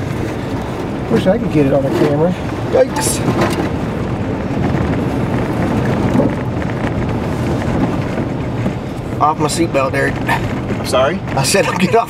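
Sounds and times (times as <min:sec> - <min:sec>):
engine and tyres rumble: 0:00.0 - 0:12.0.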